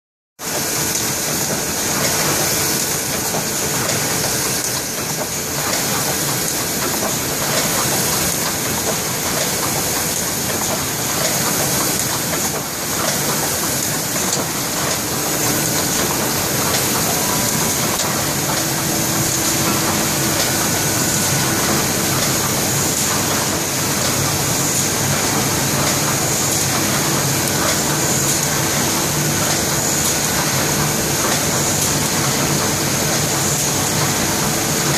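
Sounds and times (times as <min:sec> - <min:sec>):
engraving press running: 0:00.4 - 0:34.9.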